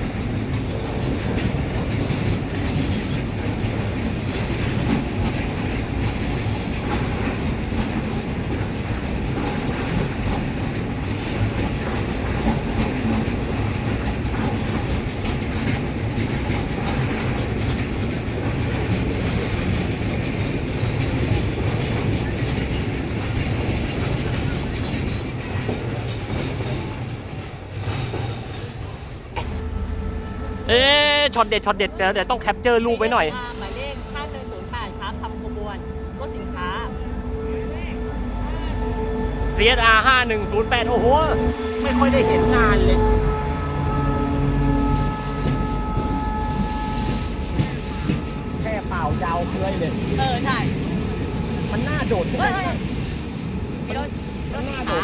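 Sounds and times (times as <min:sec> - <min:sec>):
train wheels on rails: 0:00.0 - 0:36.8, 0:38.4 - 0:55.0.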